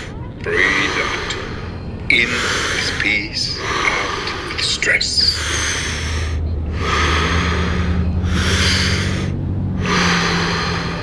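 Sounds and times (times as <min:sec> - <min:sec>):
low steady hum: 0:00.0 - 0:11.0
man breathing forcefully: 0:00.0 - 0:11.0.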